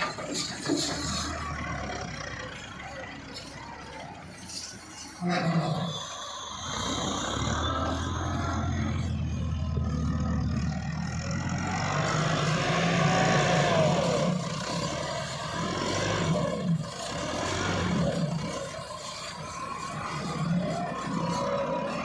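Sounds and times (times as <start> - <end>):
tractor engines running: 0.0 - 22.0.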